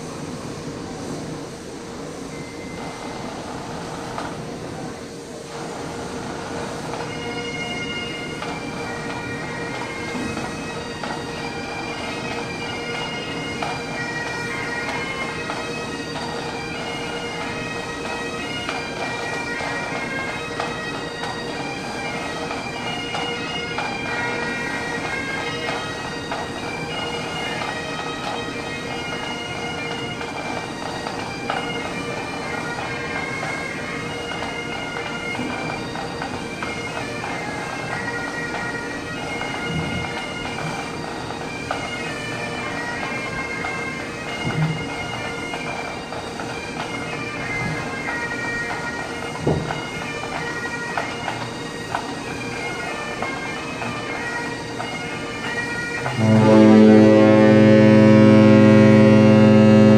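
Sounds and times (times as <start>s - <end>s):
bagpipes playing over a drone: 2.2s - 59.9s.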